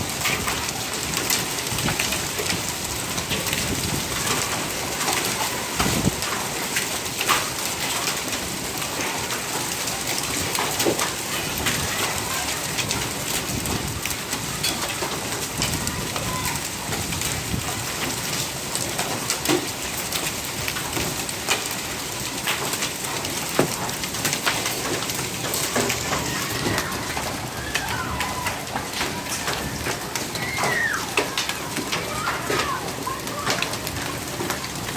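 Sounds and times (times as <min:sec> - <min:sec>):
hailstones clicking on hard surfaces: 0:00.0 - 0:34.9
heavy rain: 0:00.0 - 0:34.9.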